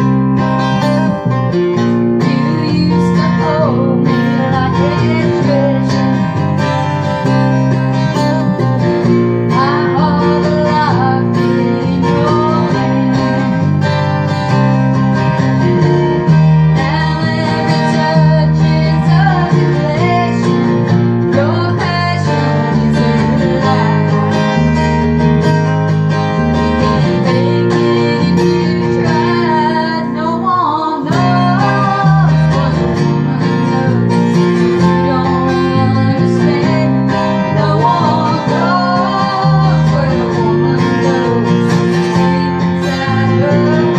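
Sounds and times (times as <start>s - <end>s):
band playing country song: 0.0s - 43.9s.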